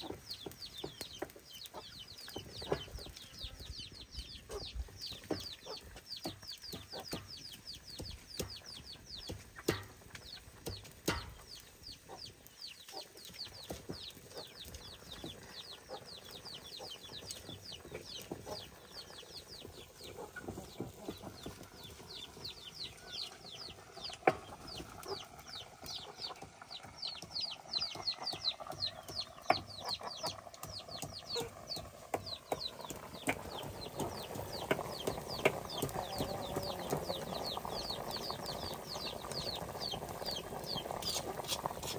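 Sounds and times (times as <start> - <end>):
chickens peeping: 0.0 - 41.9.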